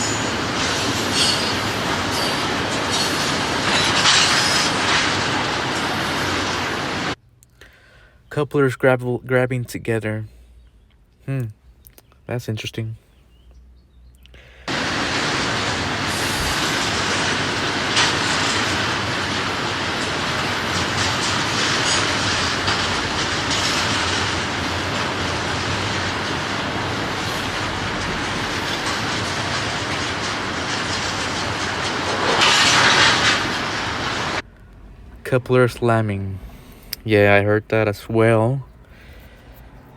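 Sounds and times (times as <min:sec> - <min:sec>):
train couplers slamming: 0:00.0 - 0:07.2, 0:14.7 - 0:39.9
train wheels clicking over rail joints: 0:00.0 - 0:07.2, 0:14.7 - 0:39.9.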